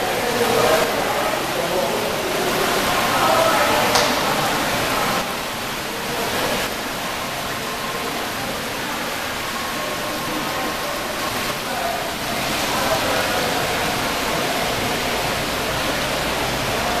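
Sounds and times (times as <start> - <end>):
fountain water splashing into basin: 0.0 - 17.0.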